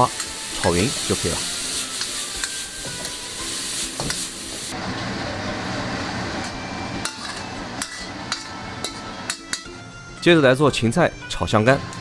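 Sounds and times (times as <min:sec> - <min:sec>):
food sizzling in a wok: 0:00.0 - 0:09.8.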